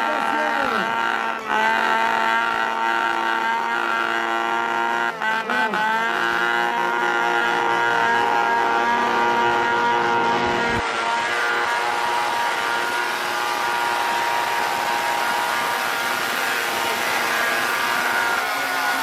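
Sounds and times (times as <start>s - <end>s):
motocross bike engines running: 0.0s - 19.0s.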